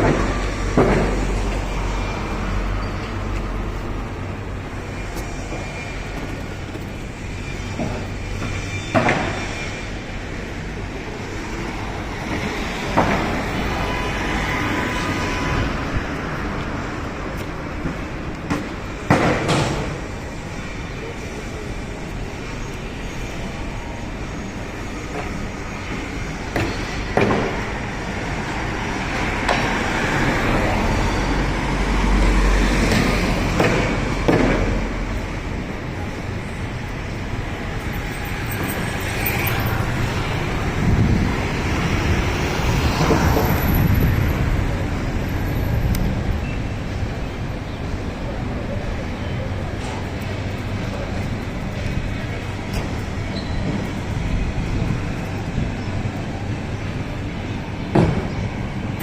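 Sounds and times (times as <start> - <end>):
traffic: 0.0 - 59.0.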